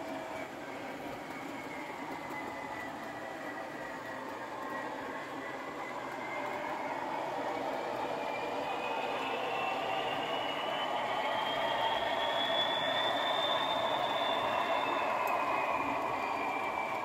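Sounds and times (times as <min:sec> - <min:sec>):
wheels running on track: 0:00.0 - 0:17.0.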